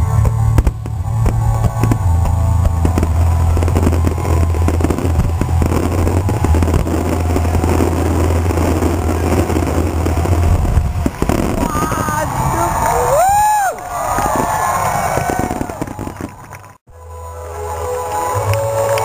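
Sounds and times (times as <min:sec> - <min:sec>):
fireworks bursting and crackling: 0:00.0 - 0:16.8
low rumble: 0:00.0 - 0:16.8.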